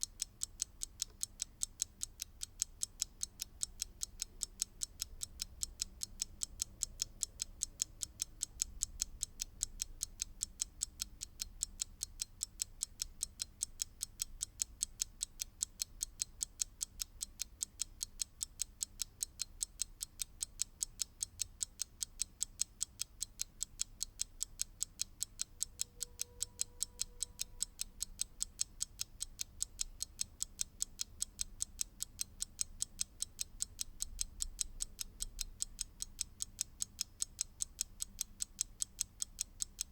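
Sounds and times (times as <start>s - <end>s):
mechanical clock ticking: 0.0s - 39.9s.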